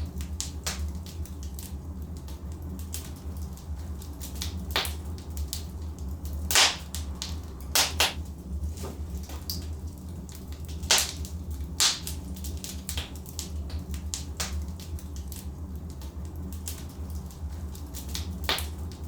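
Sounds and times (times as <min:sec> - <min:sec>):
logs crackling in fireplace: 0:00.0 - 0:19.0
steady low rumble: 0:00.0 - 0:19.0.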